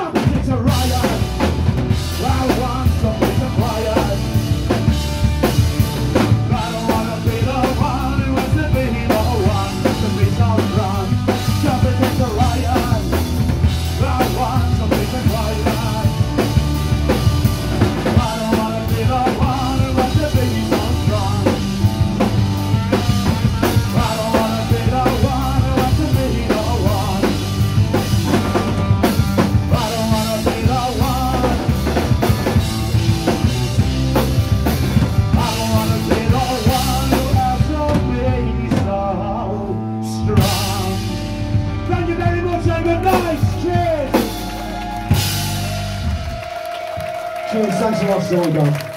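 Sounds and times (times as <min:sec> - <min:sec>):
drum kit beat: 0:00.0 - 0:39.4, 0:40.3 - 0:48.9
bass guitar: 0:00.0 - 0:48.9
electric guitars: 0:00.0 - 0:48.9.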